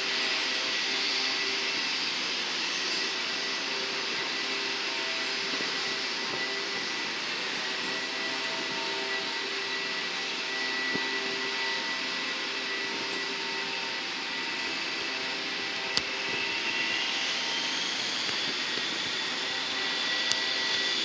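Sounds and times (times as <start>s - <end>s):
high rising whine: 0.0s - 21.0s
jet engines running: 0.0s - 21.0s.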